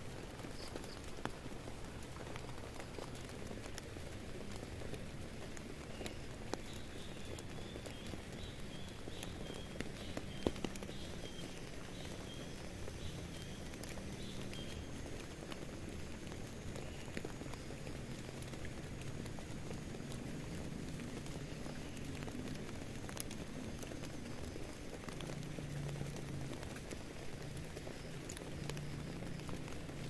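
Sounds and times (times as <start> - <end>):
rain falling on a tent: 0.0 - 30.0.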